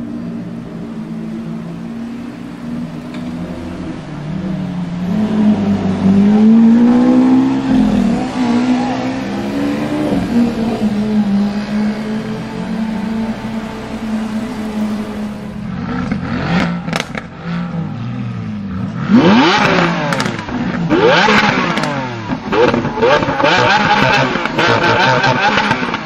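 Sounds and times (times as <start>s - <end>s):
car driving off: 0.0s - 26.0s
car engine revving: 0.0s - 26.0s.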